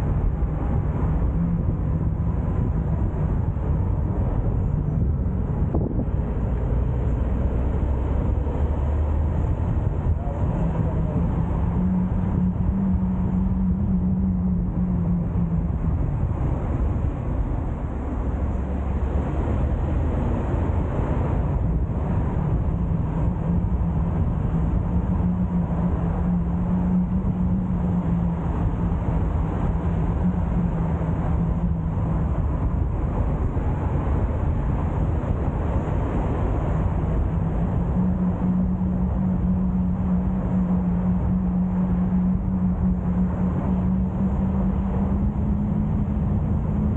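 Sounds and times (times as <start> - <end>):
car engine and tyre noise: 0.0 - 46.9.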